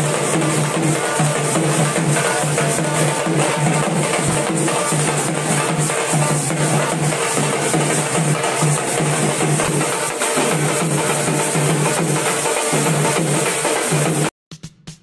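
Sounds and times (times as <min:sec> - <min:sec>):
barrel drums beating: 0:00.0 - 0:15.0.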